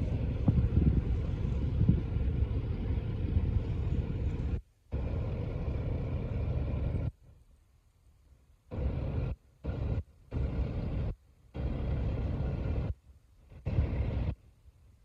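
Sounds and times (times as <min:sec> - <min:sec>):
boat engine droning: 0:00.0 - 0:07.1, 0:08.7 - 0:14.6.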